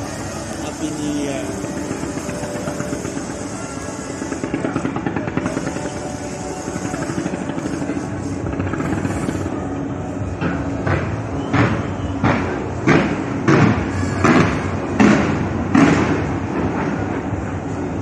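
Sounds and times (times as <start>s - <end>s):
fireworks booming: 0.0s - 18.0s.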